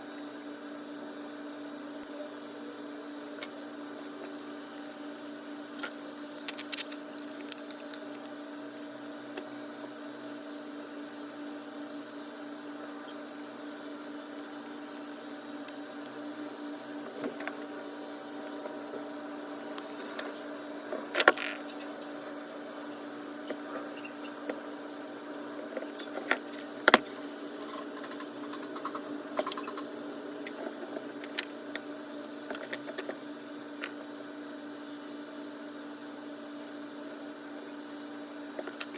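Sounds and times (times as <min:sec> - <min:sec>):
steady hum: 0:00.0 - 0:38.9.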